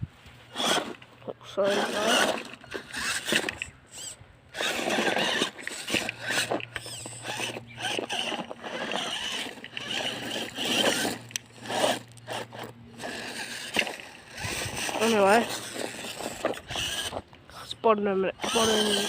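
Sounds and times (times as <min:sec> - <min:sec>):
tyres and chassis scraping rock: 0:00.1 - 0:19.0
toy car motor whirring: 0:00.5 - 0:19.0.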